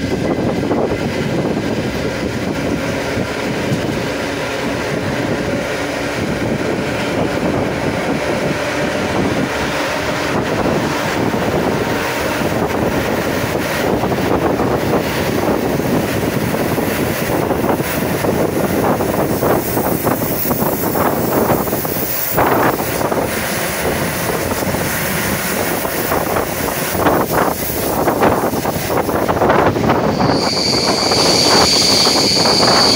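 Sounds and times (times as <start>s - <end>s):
train rumble: 0.0s - 32.9s
wind noise: 0.0s - 32.9s.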